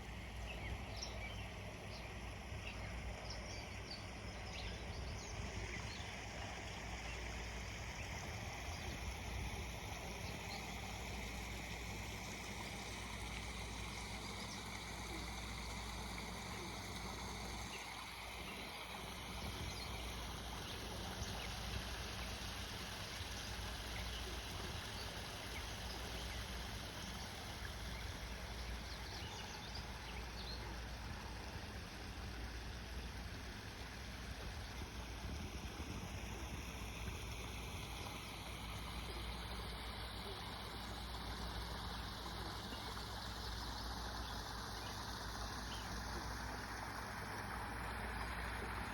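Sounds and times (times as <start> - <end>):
waterfall splashing and trickling: 0.0 - 48.9.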